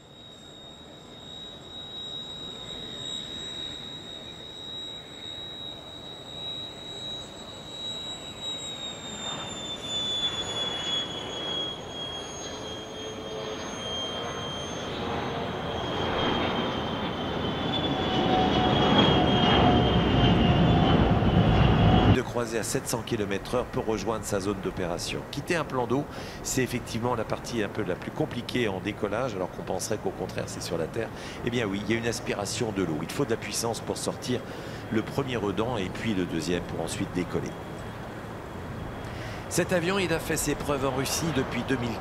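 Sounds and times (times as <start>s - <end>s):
high jet engine whine: 0.0s - 42.0s
jet noise: 0.0s - 42.0s.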